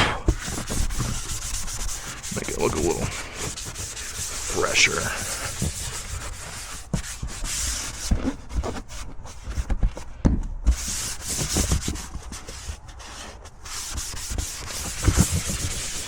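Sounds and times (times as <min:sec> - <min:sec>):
cloth scrubbing surface: 0:00.0 - 0:09.7, 0:10.7 - 0:16.0.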